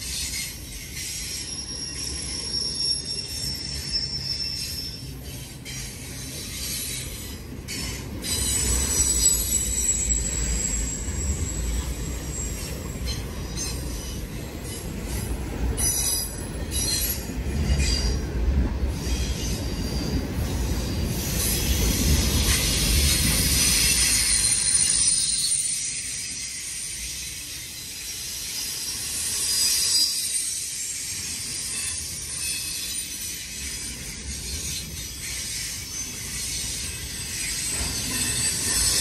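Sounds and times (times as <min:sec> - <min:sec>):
freight train cars rumbling: 0:00.0 - 0:39.0
steel wheels squealing: 0:00.0 - 0:39.0.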